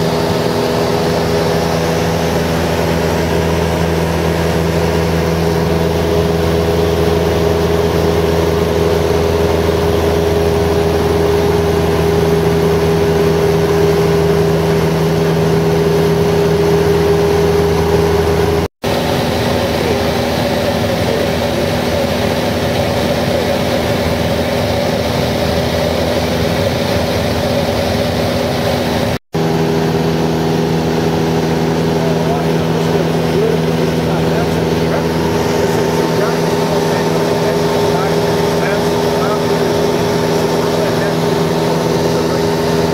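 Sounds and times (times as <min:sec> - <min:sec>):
aircraft engine drone in cabin: 0:00.0 - 0:42.9.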